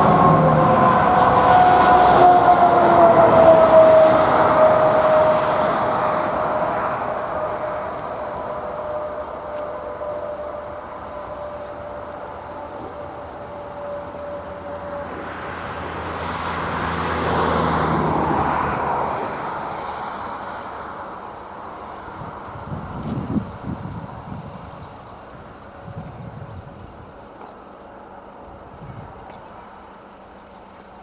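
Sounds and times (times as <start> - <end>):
motor vehicle engine: 0.0 - 31.0
train running noise: 0.0 - 31.0.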